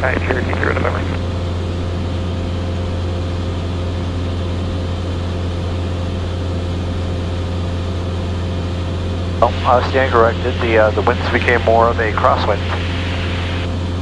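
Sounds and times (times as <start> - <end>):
aircraft engine droning in cabin: 0.0 - 14.0.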